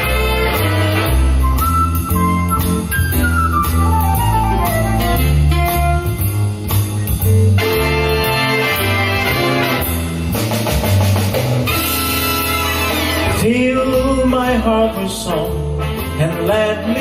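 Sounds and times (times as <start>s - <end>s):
drum kit: 0.0s - 17.0s
guitar: 0.0s - 17.0s
walking bass line: 0.0s - 17.0s.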